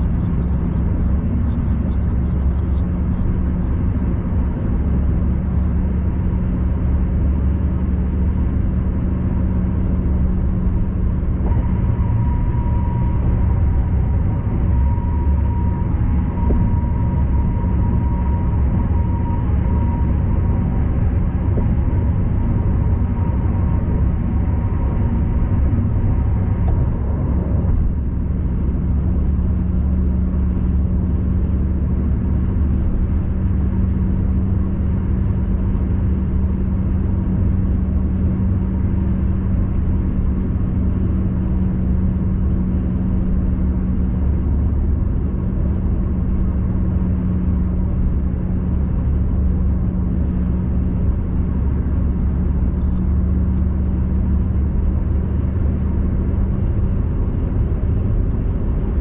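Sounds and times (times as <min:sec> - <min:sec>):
car engine hum: 0:00.0 - 0:59.0
tyres rumbling on road: 0:00.0 - 0:59.0.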